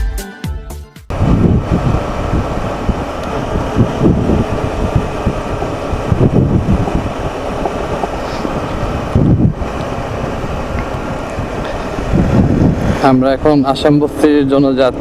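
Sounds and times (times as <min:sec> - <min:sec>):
motorcycle engine running: 0:01.1 - 0:15.0
road noise: 0:01.1 - 0:15.0
wind buffeting microphone: 0:01.1 - 0:15.0.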